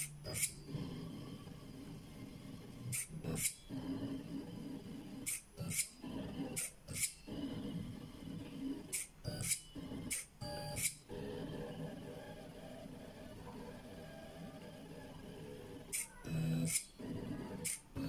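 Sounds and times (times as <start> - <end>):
servo clicks: 0.0 - 0.8, 2.8 - 13.4, 14.6 - 18.0
stepper motors whirring: 0.0 - 18.0.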